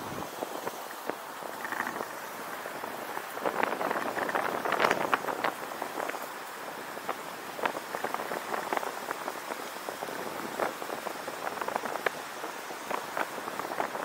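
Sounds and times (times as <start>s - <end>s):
light ticks and crackles: 0.4s - 14.0s.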